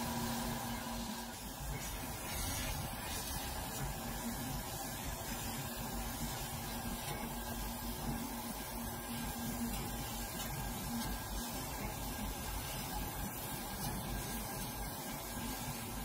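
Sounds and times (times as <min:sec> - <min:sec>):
laser cutter hissing: 0:00.0 - 0:16.0.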